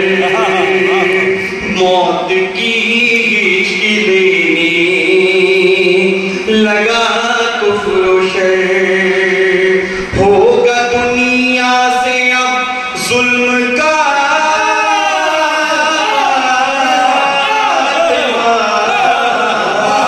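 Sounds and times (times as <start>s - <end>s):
man chanting into microphone: 0.0s - 20.0s.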